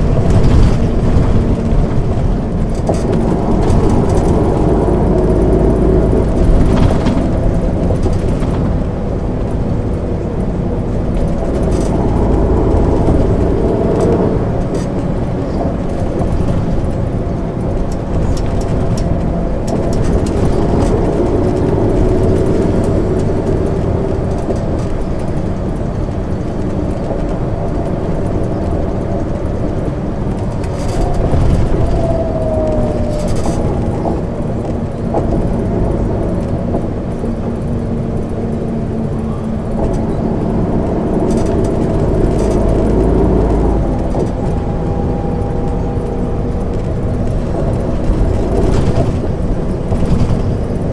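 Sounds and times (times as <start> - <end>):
bus diesel engine: 0.0 - 50.9
road noise rumble: 0.0 - 50.9.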